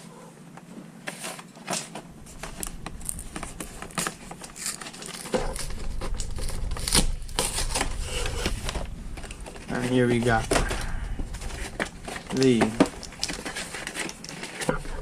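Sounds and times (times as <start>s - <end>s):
packaging crinkling and rustling: 1.0s - 15.0s.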